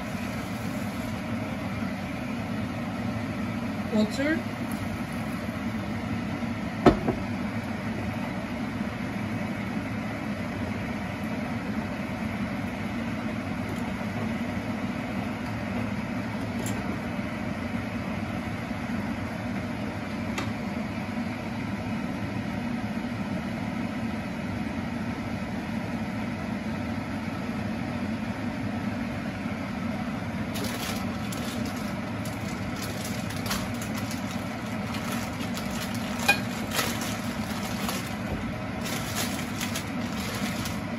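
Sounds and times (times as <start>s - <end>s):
low mechanical hum: 0.0s - 40.9s.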